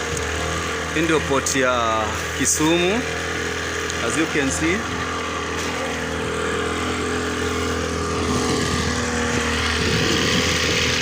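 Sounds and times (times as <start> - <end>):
motorboat engine running: 0.0 - 11.0
water and wind hiss: 0.0 - 11.0.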